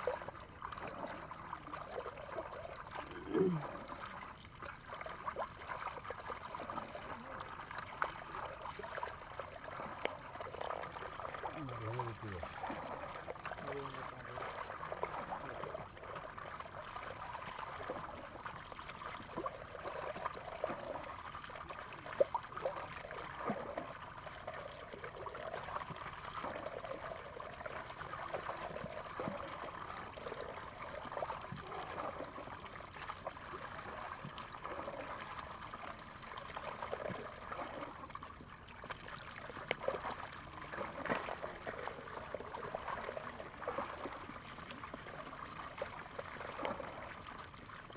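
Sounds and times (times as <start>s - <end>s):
shallow water trickling and sloshing: 0.0s - 47.9s
small water splashes: 0.0s - 47.9s.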